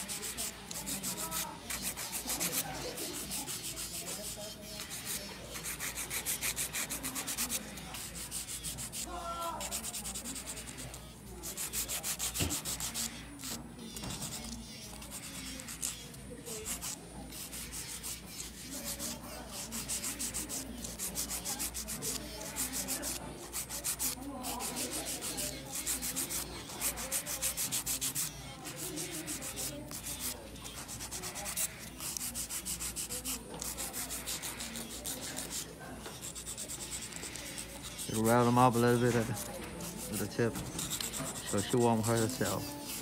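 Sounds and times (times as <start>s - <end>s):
nail file rasping on nails: 0.0s - 43.0s.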